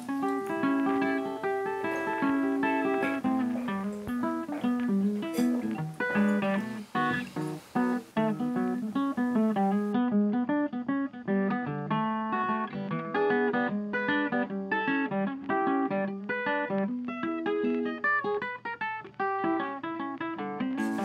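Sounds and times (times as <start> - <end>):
plucked acoustic guitar: 0.0 - 21.0.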